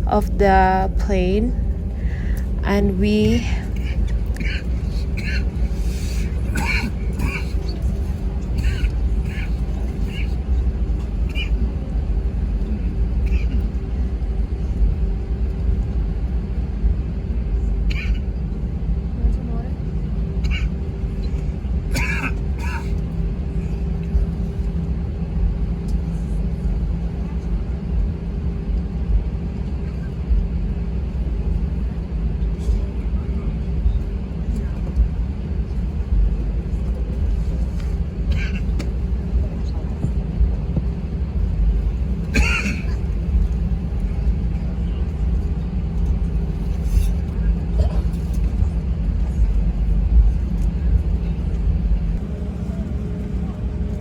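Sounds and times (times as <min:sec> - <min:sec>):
jet airliner cabin rumble: 0:00.0 - 0:54.0
steady hum: 0:00.0 - 0:54.0.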